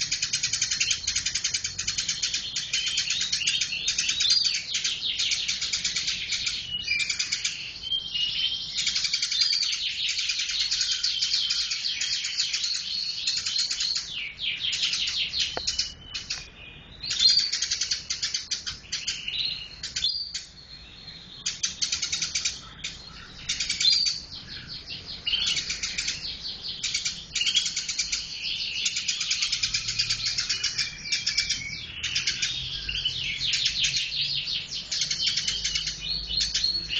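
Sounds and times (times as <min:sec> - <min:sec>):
sparrow chirping rapidly: 0:00.0 - 0:36.9.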